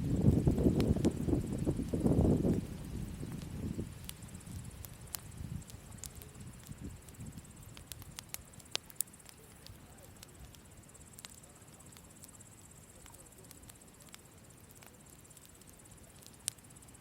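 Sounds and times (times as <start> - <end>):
campfire crackling and popping: 0.0 - 17.0
crickets chirring: 0.0 - 17.0
low rumble of flames: 0.0 - 17.0.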